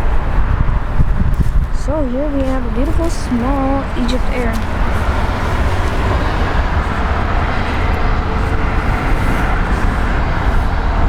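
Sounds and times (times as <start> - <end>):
jet airliner engine rumble: 0.0 - 11.0.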